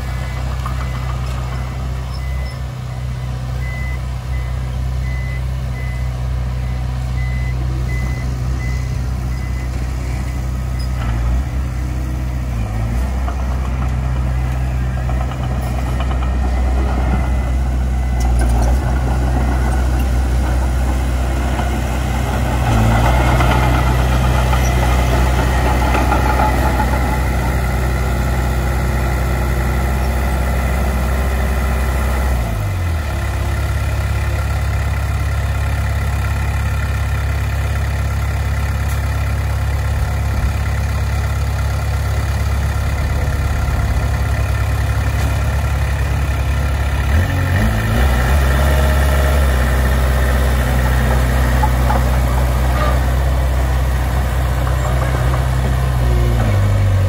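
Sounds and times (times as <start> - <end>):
diesel engines droning: 0.0 - 57.0.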